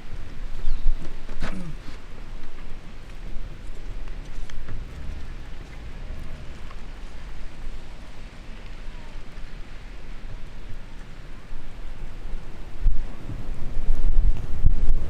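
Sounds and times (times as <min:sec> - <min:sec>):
gusty wind rumbling: 0:00.0 - 0:15.0
heavy rain hissing: 0:00.0 - 0:15.0.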